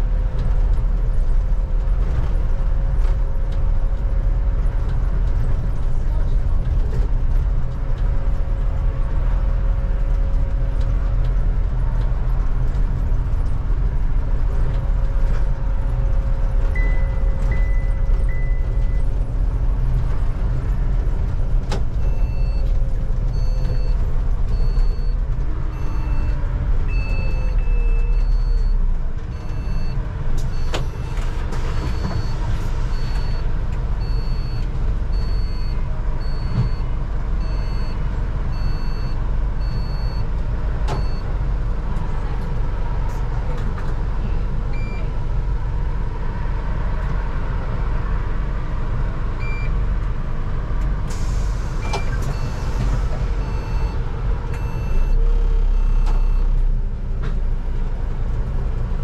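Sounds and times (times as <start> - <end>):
bus engine whining: 0.0 - 59.0.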